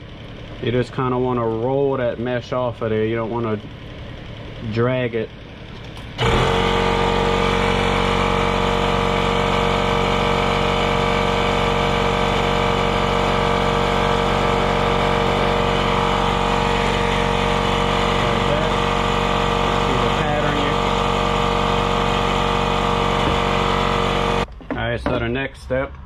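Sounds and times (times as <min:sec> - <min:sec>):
air compressor running: 0:00.0 - 0:24.5.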